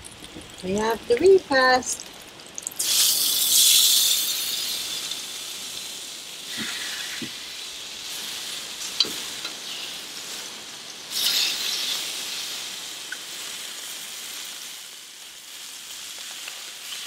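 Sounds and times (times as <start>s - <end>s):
steak sizzling on a griddle: 0.0s - 17.0s.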